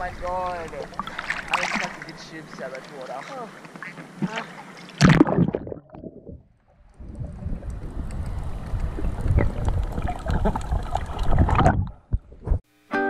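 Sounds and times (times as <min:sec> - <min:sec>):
muffled underwater sloshing: 0:00.0 - 0:12.6.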